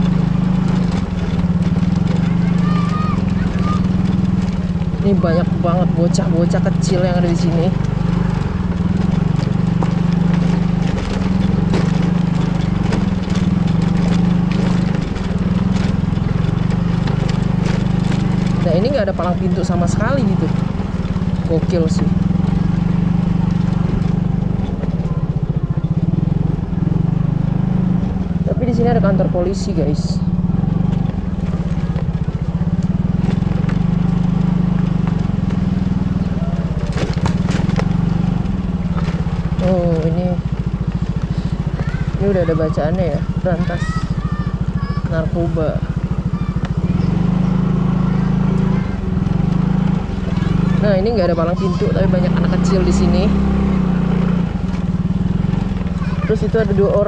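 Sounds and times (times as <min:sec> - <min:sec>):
scooter engine putter: 0:00.0 - 0:57.0.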